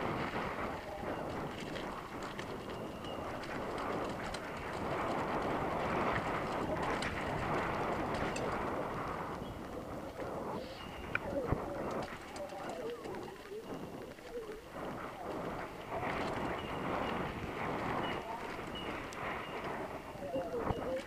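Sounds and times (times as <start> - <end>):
bike clicks and rattles: 0.0 - 14.3, 15.2 - 20.0
bike tyres rolling over dirt: 0.0 - 21.0
wind rushing over camera: 0.0 - 21.0.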